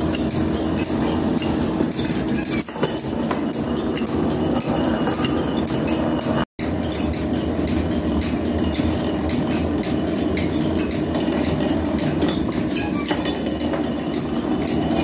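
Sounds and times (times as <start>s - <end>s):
metal planer mechanical drone: 0.0s - 15.0s.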